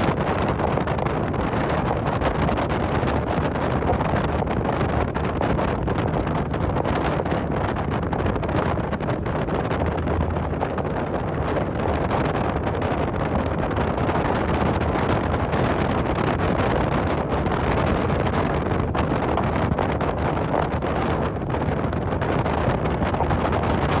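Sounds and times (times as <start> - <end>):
car road and engine noise: 0.0 - 24.0
wind rushing over microphone: 0.0 - 24.0.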